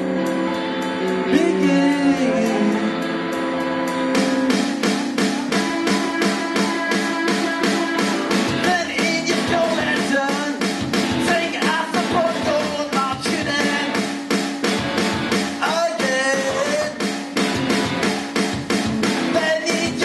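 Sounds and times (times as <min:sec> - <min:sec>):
live rock music: 0:00.0 - 0:20.0.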